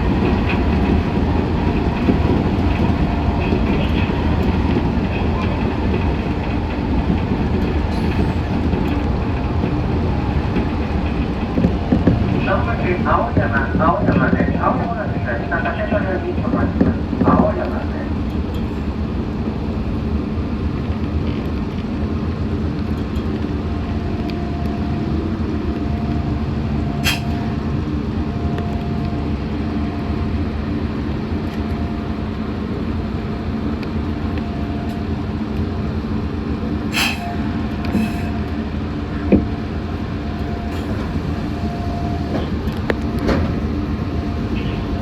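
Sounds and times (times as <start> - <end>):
steady whine: 0.0 - 45.0
train rumble and hum: 0.0 - 45.0.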